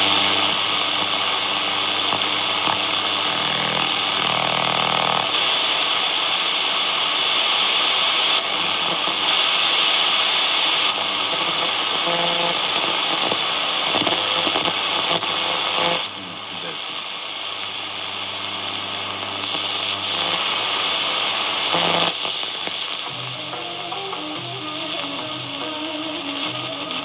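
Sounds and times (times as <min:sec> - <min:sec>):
faint radio tones: 0:00.0 - 0:05.6, 0:06.7 - 0:27.0
radio static hiss: 0:00.0 - 0:27.0.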